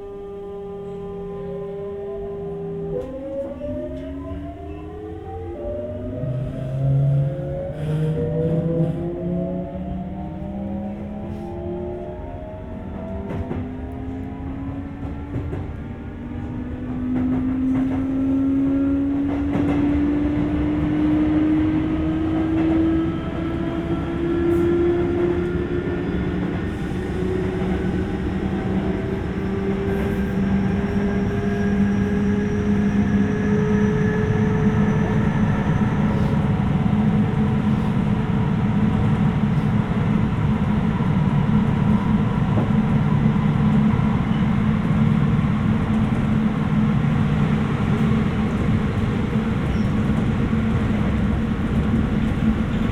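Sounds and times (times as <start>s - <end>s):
electric train inverter whine: 0.0s - 52.9s
train motors and wheels rumbling: 0.0s - 52.9s.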